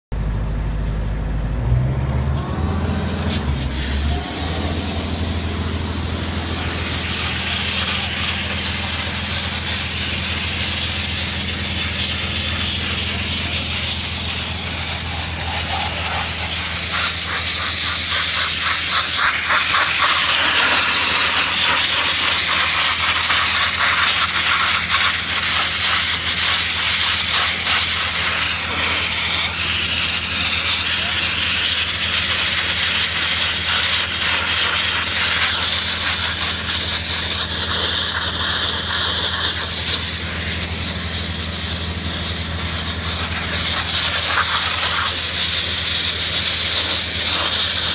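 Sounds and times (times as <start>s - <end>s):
air compressor droning: 0.1s - 47.9s
abrasive blasting jet hissing: 2.4s - 47.9s.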